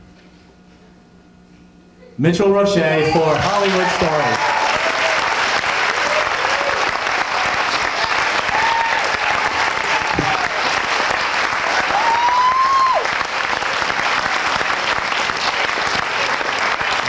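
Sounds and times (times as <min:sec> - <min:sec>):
audience applauding: 0:03.2 - 0:17.0.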